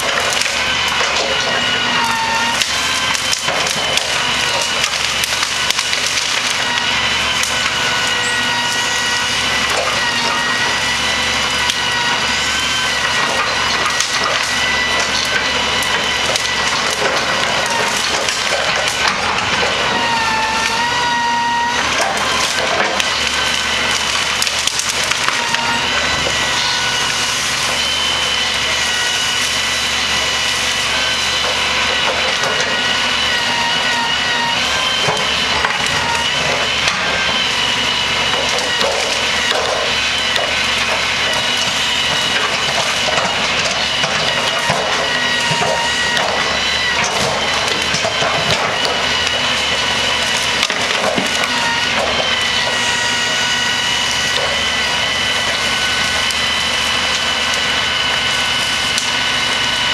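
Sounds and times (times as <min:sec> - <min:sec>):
branches crackling and snapping: 0:00.0 - 0:59.9
high hydraulic whine: 0:00.0 - 0:59.9.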